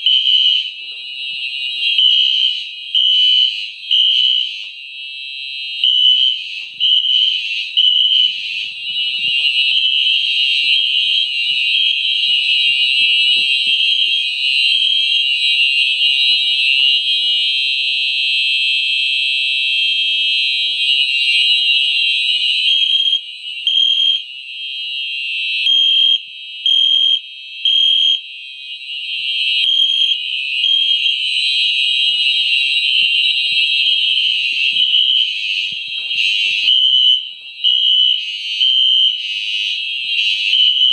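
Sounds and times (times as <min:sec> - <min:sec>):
fire alarm horns blaring: 0:00.0 - 0:40.9
pulsing alarm horns: 0:00.0 - 0:40.9.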